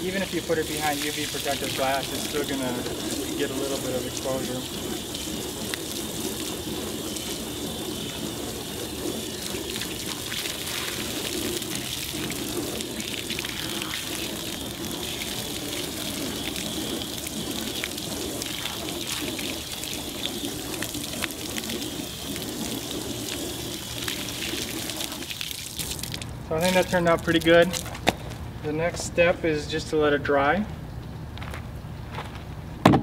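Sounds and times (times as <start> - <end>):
hose water spraying into bucket: 0.0 - 28.2
water spilling from bucket: 0.0 - 28.2.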